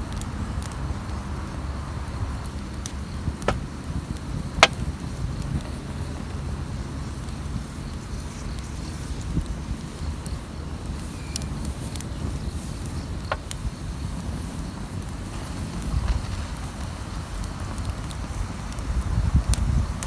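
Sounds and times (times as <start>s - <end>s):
campfire burning: 0.0s - 20.0s
wood crackling and popping: 0.0s - 20.0s.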